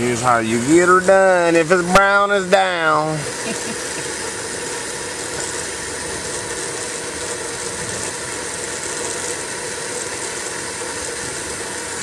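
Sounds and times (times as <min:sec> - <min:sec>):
propane torch flame hissing: 0:00.0 - 0:12.0.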